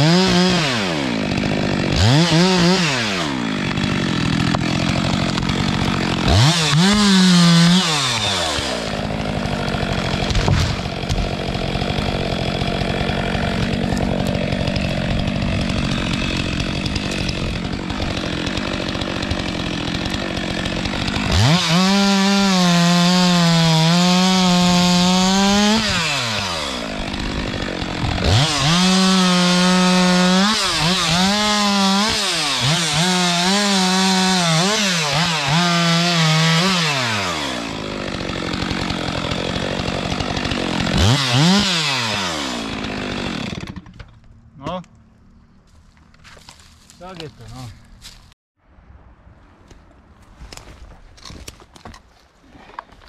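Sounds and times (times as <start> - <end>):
chainsaw engine revving: 0.0 - 44.0
chainsaw cutting wood: 0.0 - 44.4.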